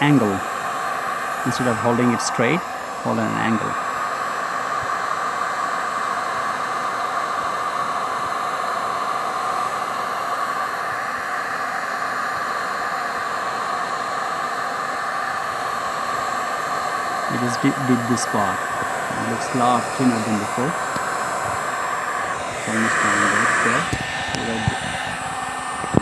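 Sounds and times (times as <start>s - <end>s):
heat gun blowing: 0.0s - 26.0s.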